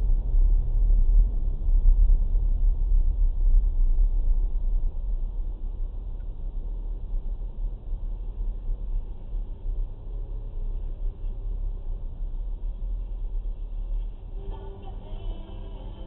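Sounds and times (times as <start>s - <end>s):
muffled vehicle engine rumble: 0.0s - 16.0s
tyres on snowy road: 0.0s - 16.0s.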